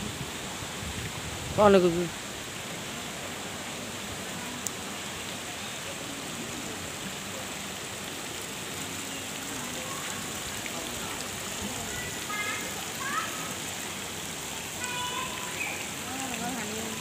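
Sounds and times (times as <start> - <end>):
falling water splashing: 0.0 - 17.0.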